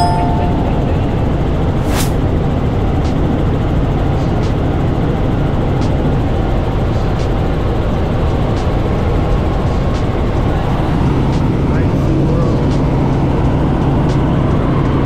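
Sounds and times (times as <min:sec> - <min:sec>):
helicopter engine and rotor rumble: 0:00.0 - 0:15.0.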